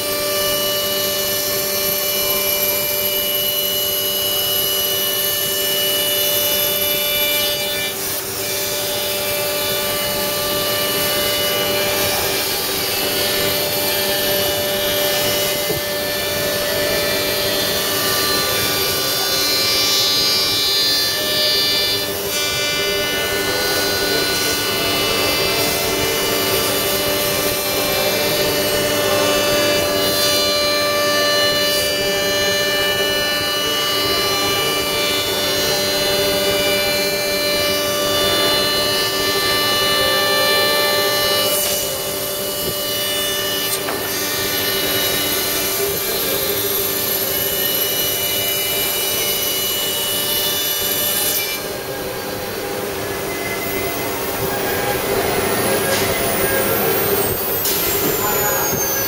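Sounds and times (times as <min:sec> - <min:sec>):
router spindle whining: 0:00.0 - 0:59.0.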